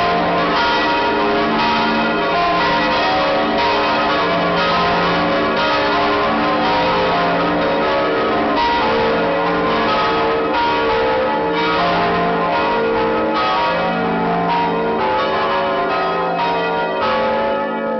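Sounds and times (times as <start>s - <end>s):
church bells ringing: 0.0s - 17.9s.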